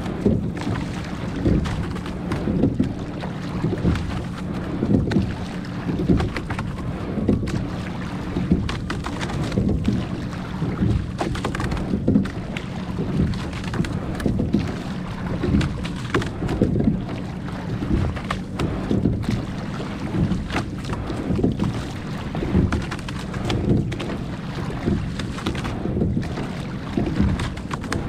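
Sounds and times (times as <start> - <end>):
oars knocking: 0.0 - 28.0
water along boat hull: 0.0 - 28.0
wind rumbling on microphone: 0.0 - 28.0.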